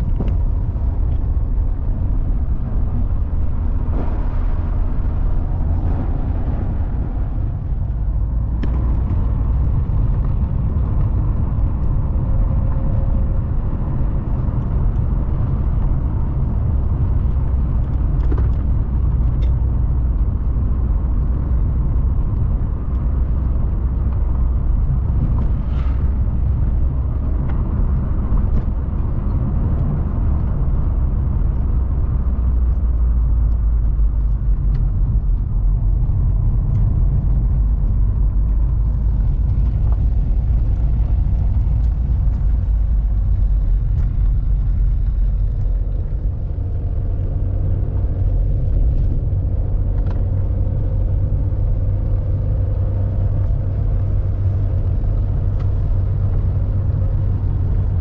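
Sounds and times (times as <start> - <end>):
motor vehicle rumbling: 0.0 - 58.0.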